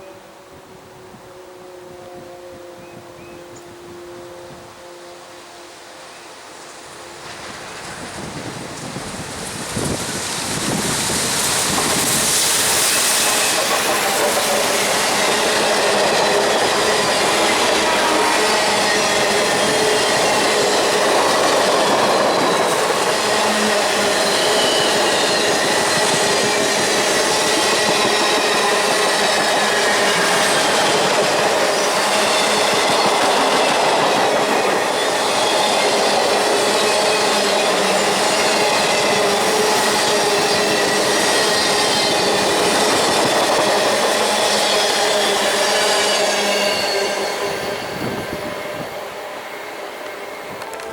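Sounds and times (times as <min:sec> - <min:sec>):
train wheels rumbling on rail: 0:00.0 - 0:50.9
wheels squealing: 0:07.8 - 0:50.9.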